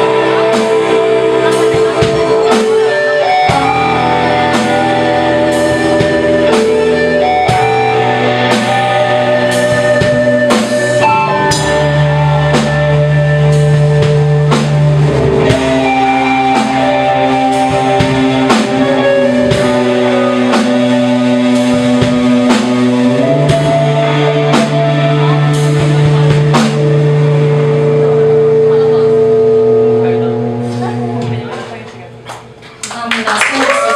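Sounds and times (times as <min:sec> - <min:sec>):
bass guitar: 0:00.0 - 0:32.8
electric guitar chords: 0:00.0 - 0:32.8
drum kit beat: 0:00.0 - 0:33.1.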